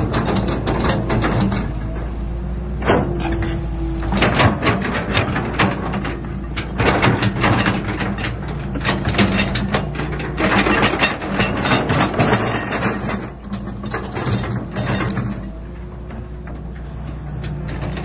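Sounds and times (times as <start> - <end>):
excavator engine running: 0.0 - 18.0
metal clanks and knocks: 0.0 - 18.0.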